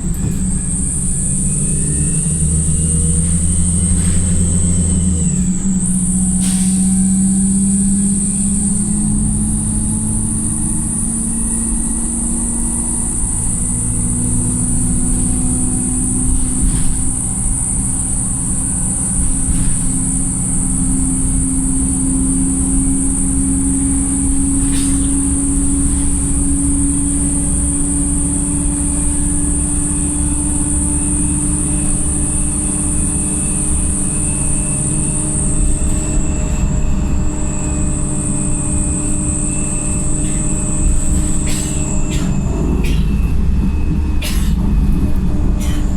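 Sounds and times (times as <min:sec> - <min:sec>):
bus engine drone: 0:00.0 - 0:45.9
high-pitched whine: 0:00.0 - 0:45.9.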